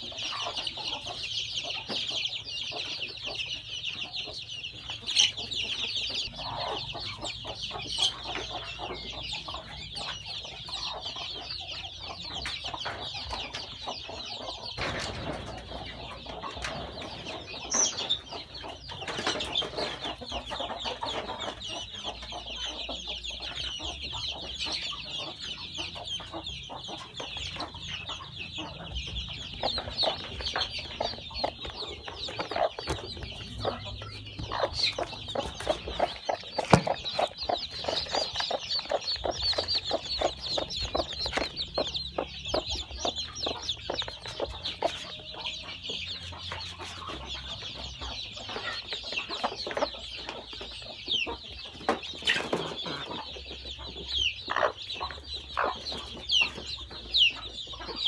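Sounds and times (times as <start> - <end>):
chicks peeping: 0.0 - 58.0
hens clucking: 0.0 - 58.0.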